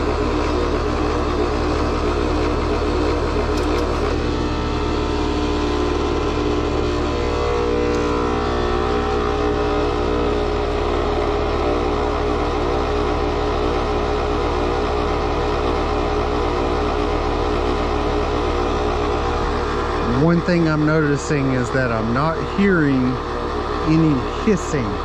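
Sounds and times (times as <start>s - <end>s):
heat pump compressor drone: 0.0s - 25.0s.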